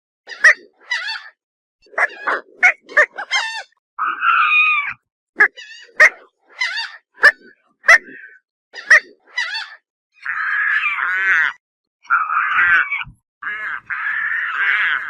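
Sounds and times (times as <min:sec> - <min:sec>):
pelican squawking: 0:00.3 - 0:15.0.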